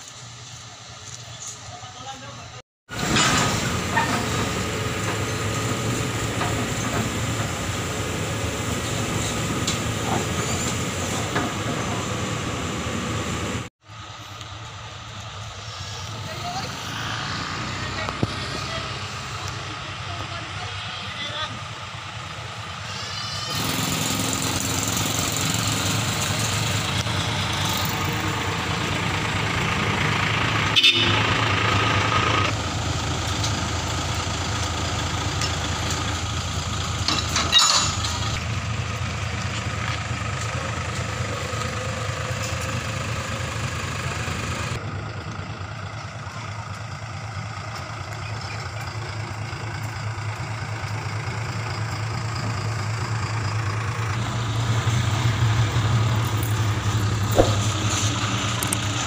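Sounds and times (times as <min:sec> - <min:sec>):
truck diesel engine running: 0:02.9 - 0:59.0.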